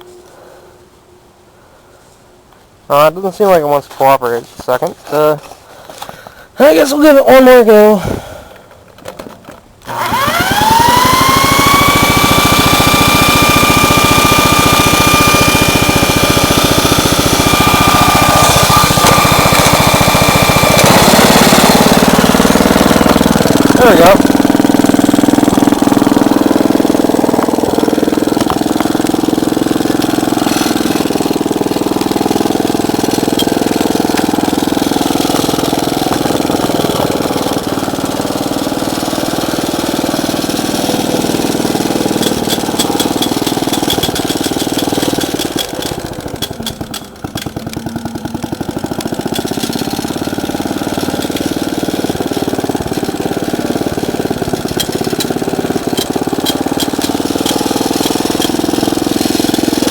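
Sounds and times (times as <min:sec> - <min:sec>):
single-cylinder engine running: 0:09.8 - 0:59.9.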